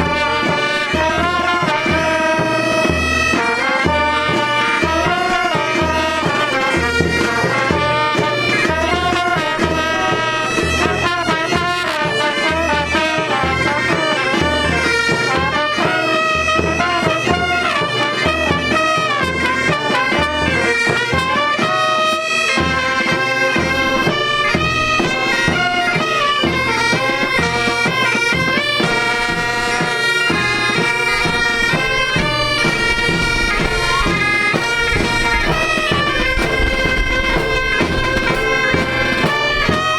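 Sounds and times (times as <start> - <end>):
bagpipes playing a tune: 0.0 - 39.9
steady drumbeat: 0.0 - 39.9.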